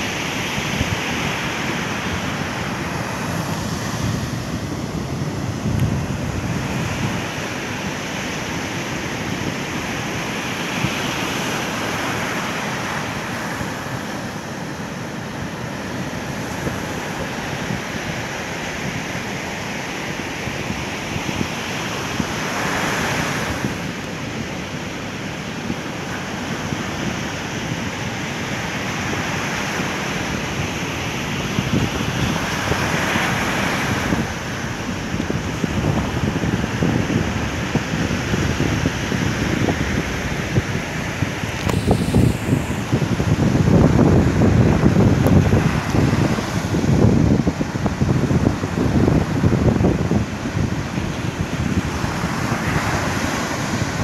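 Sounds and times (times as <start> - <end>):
ocean waves crashing on beach: 0.0 - 54.0
wind rumbling on microphone: 0.0 - 54.0.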